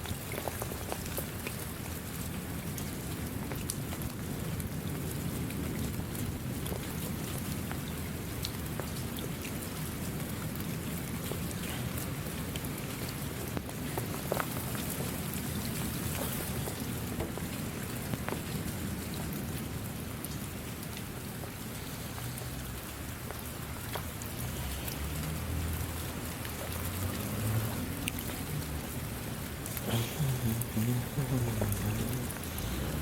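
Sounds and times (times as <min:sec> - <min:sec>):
raindrops ticking: 0:00.0 - 0:33.0
steady rain hiss: 0:00.0 - 0:33.0.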